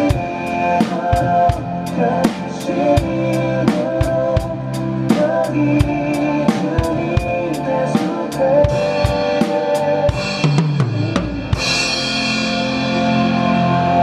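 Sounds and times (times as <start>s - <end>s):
drum kit beat: 0.0s - 14.0s
worship song backing track: 0.0s - 14.0s.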